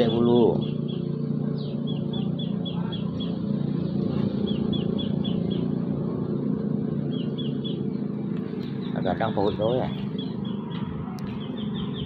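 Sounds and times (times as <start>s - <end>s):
low motor hum: 0.0s - 12.0s
small bird chirping: 0.0s - 12.0s.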